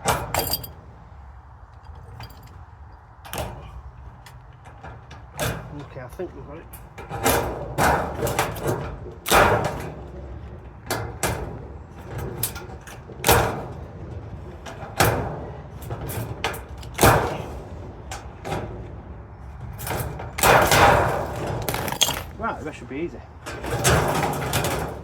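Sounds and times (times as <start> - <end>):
steel panels clanking: 0.0 - 1.2, 1.8 - 25.0.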